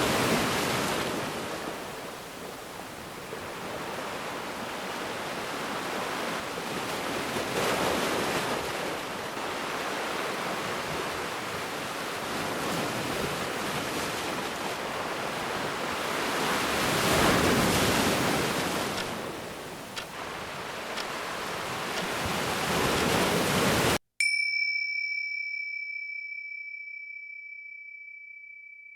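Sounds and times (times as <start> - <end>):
ocean waves washing onto beach: 0.0 - 24.0.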